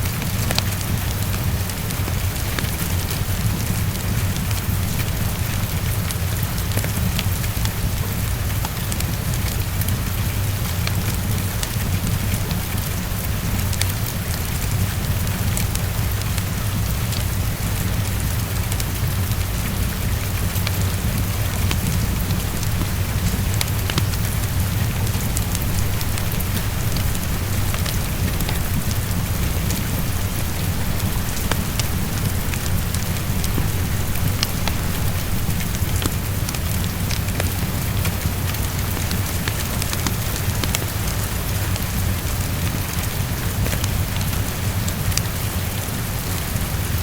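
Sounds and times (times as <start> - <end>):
deep steady rumble: 0.0 - 47.0
heavy rain against a window: 0.0 - 47.0
raindrop ticks: 0.0 - 47.0.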